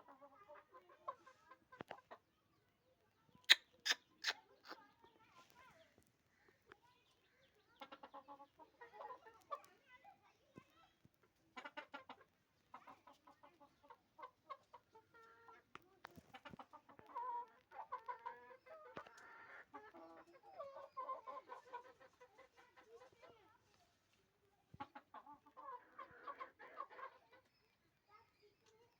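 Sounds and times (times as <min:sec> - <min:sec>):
hens clucking: 0:00.0 - 0:02.4, 0:03.4 - 0:05.4, 0:06.3 - 0:09.8, 0:11.2 - 0:23.7, 0:24.3 - 0:27.7.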